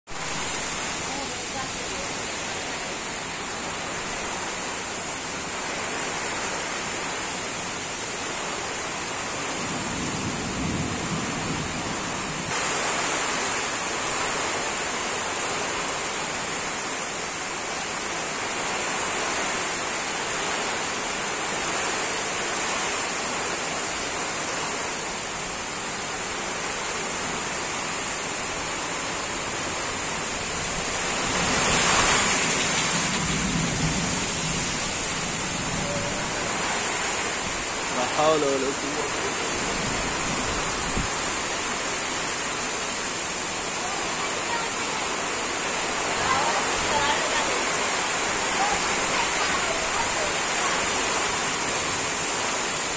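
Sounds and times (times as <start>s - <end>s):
heavy rain: 0.0s - 52.9s
strong gusting wind: 0.1s - 15.0s, 18.5s - 52.9s.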